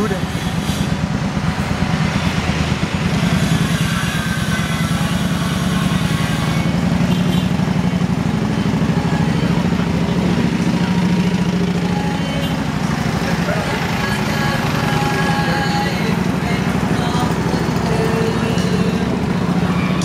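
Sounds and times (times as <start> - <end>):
small motorbike engine running: 0.0 - 20.0.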